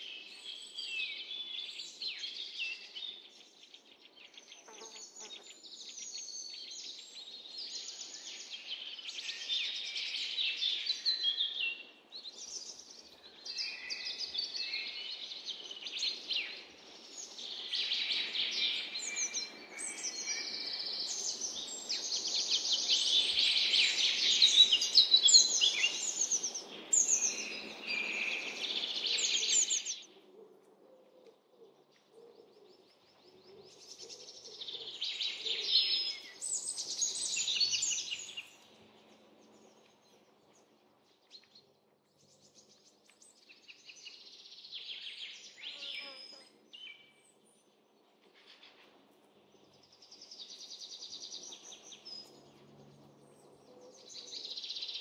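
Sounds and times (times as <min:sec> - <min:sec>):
songbirds singing: 0:00.0 - 0:30.4, 0:31.2 - 0:55.0.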